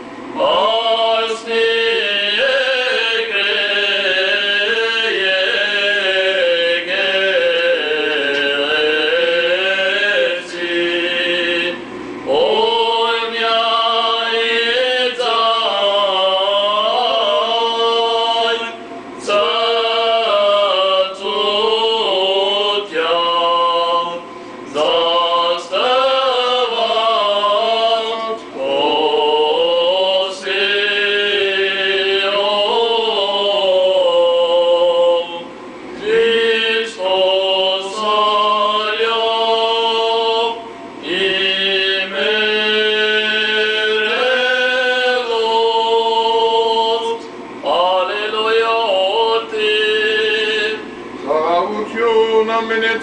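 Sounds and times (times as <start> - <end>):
men chanting a hymn: 0.3 - 53.0.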